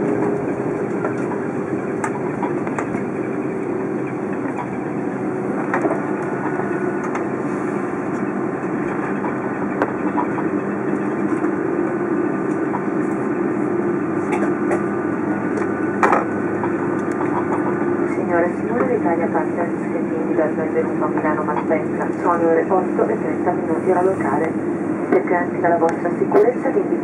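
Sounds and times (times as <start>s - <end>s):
aircraft engine hum: 0.0s - 27.0s.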